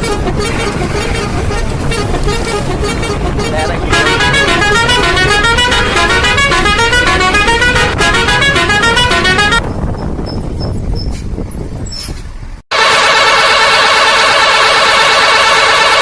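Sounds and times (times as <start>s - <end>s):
truck musical horn tune: 0.0s - 9.7s, 12.7s - 16.0s.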